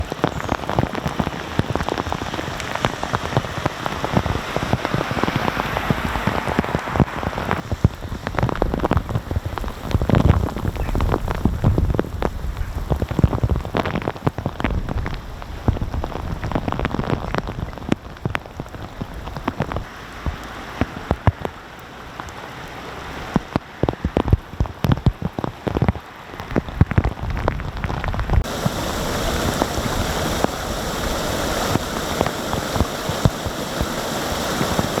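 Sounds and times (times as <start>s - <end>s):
heavy rain falling: 0.0s - 35.0s
raindrops splattering on surfaces: 0.0s - 35.0s.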